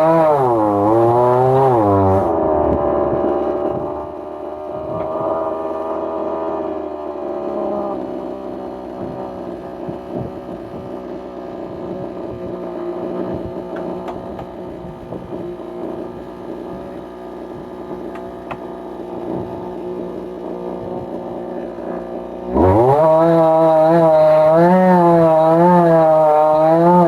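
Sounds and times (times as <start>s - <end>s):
chainsaw idling: 0.0s - 27.0s.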